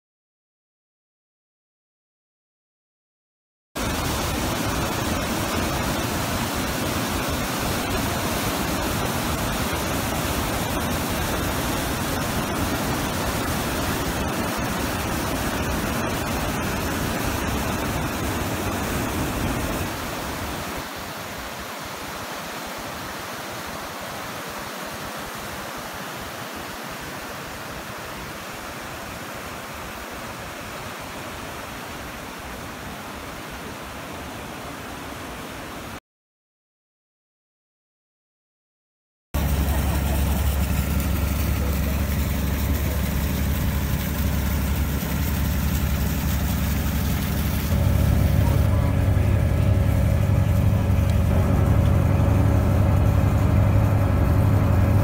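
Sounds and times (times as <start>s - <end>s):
fast river rushing: 3.8s - 36.0s, 39.4s - 55.0s
waterfall rushing over rock: 3.8s - 36.0s, 39.4s - 55.0s.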